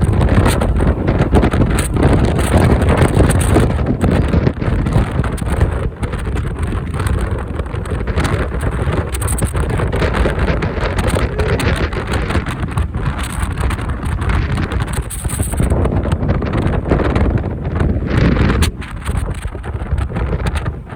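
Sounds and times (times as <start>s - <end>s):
motorcycle engine and road noise: 0.0s - 20.9s
wind buffeting microphone: 0.0s - 20.9s.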